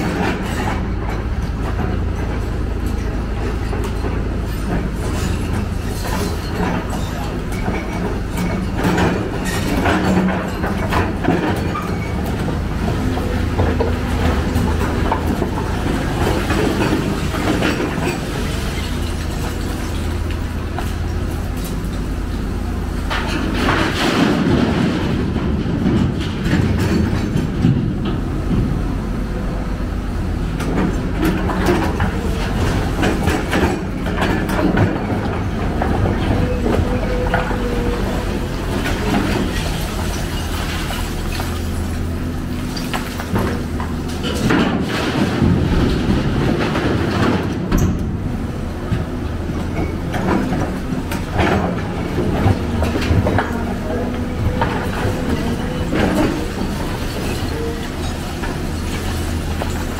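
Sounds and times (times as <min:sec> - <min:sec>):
metal clanks and knocks: 0:00.0 - 0:22.0, 0:23.0 - 0:29.0, 0:30.6 - 0:41.6, 0:42.8 - 0:59.9
heavy diesel machinery running: 0:00.0 - 0:59.9.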